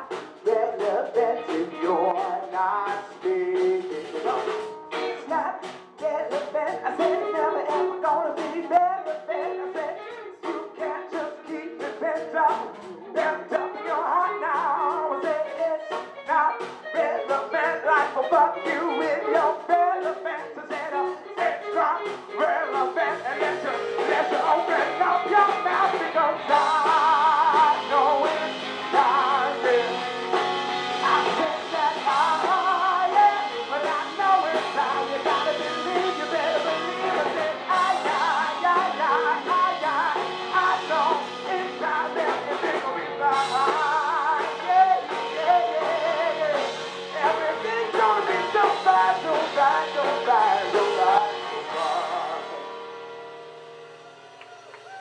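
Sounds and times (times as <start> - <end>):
live soul band playing: 0.0 - 55.0.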